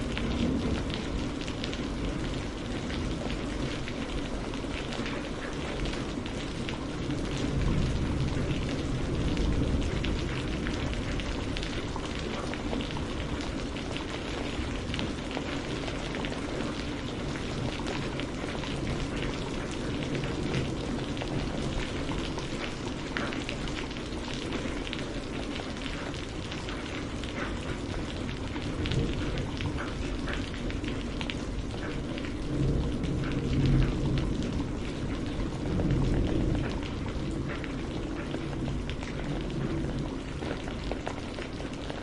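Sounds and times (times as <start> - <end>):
rain drops pattering: 0.0 - 42.0.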